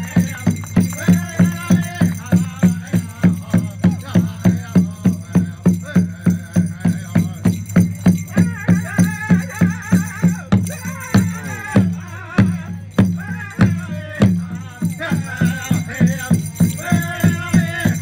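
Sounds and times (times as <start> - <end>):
drum beating steady pulse: 0.0 - 18.0
wavering singing: 0.0 - 18.0.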